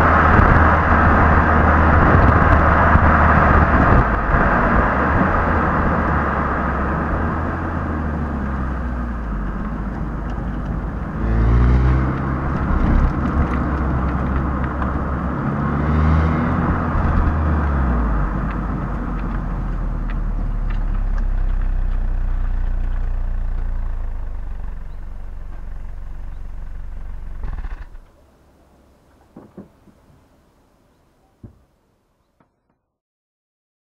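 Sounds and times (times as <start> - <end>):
car engine revving: 0.0 - 28.1
wind noise: 0.0 - 28.1
road noise: 0.0 - 32.7.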